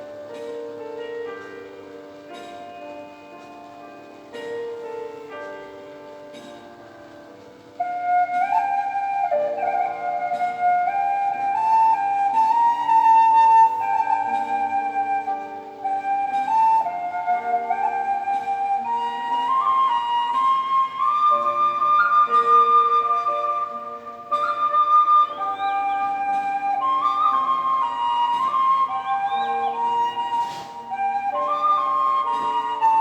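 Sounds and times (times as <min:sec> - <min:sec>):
flute melody: 0:00.0 - 0:33.0
sustained backing accompaniment: 0:00.0 - 0:33.0.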